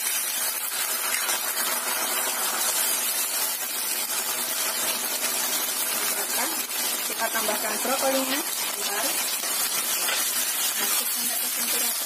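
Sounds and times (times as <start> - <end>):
sauce sizzling in hot oil: 0.0 - 12.0.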